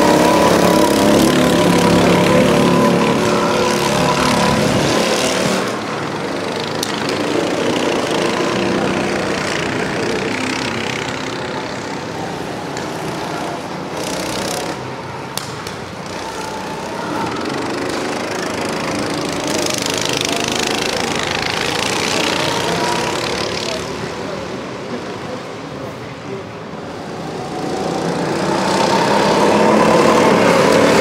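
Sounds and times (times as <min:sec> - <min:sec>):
go-kart engines buzzing: 0:00.0 - 0:31.0.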